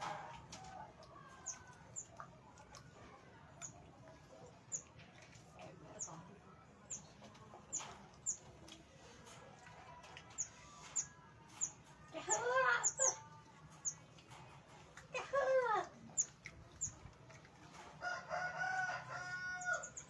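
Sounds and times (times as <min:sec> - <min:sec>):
small birds chirping: 0:01.0 - 0:17.8.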